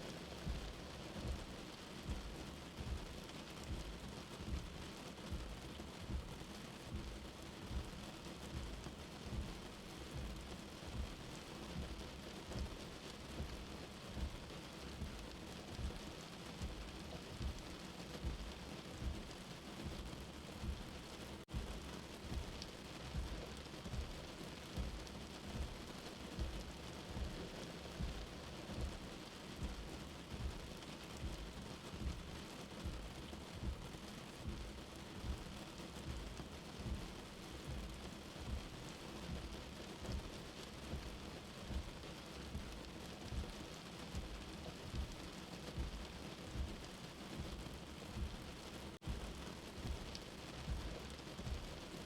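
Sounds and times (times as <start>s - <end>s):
rain heard from indoors: 0.0s - 52.0s
soft heartbeat thumping: 0.4s - 52.0s.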